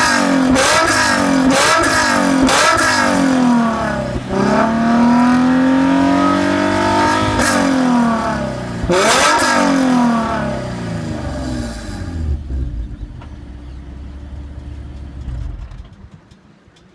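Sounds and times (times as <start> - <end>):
car engine revving and idling: 0.0 - 16.1.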